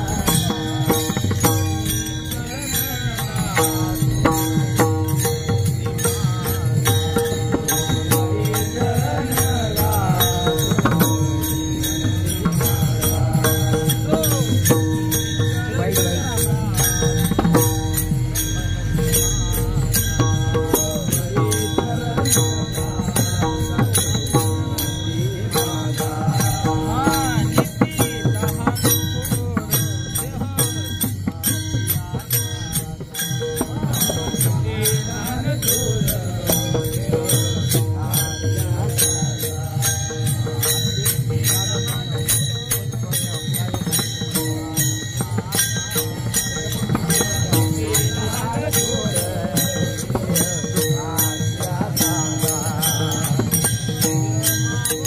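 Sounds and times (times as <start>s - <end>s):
held melodic tones: 0.0s - 55.0s
jingling hand cymbals: 0.0s - 55.0s.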